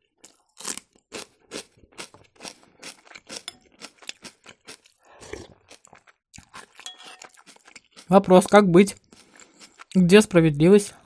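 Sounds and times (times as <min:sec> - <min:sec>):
crunchy chewing: 0:00.2 - 0:08.1, 0:08.9 - 0:10.0.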